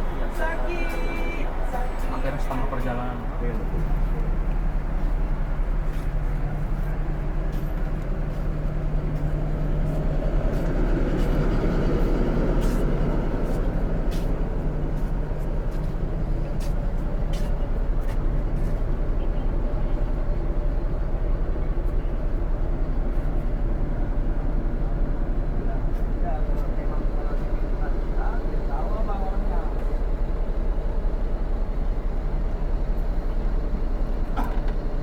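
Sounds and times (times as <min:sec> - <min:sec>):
bus engine and road noise: 0:00.0 - 0:35.0.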